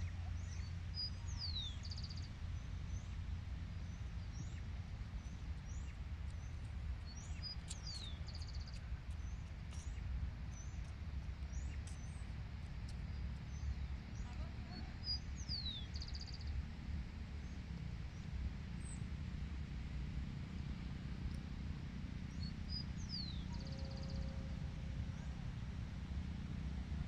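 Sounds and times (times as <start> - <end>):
songbird singing: 0.0 - 19.2, 20.7 - 27.0.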